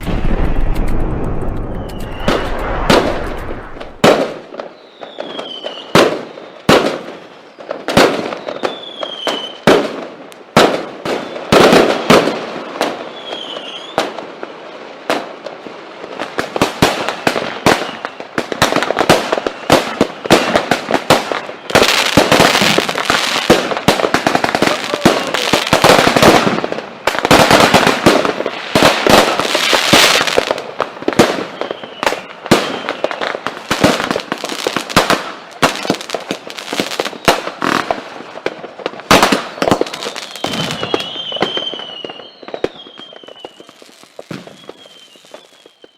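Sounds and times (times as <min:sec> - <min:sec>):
fireworks falling whistles: 0:00.0 - 0:09.9, 0:10.7 - 0:15.3, 0:16.1 - 0:45.9
fireworks bangs: 0:00.0 - 0:45.9
fireworks crackling: 0:00.0 - 0:45.9.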